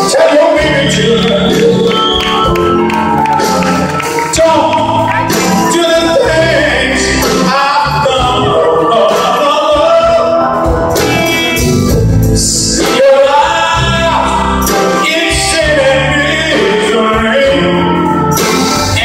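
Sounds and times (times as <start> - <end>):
man singing lead vocal: 0.0 - 2.6, 4.0 - 19.0
live rock band playing: 0.0 - 19.0.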